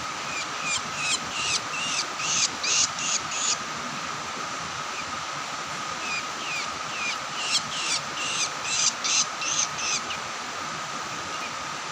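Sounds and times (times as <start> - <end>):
steady high hum: 0.0 - 11.9.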